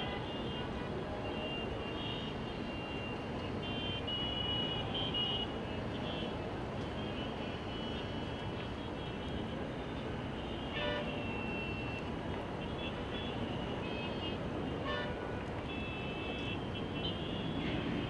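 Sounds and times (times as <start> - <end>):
vehicle horn beeps: 0.0 - 6.3, 7.0 - 18.0
distant city traffic: 0.0 - 18.0.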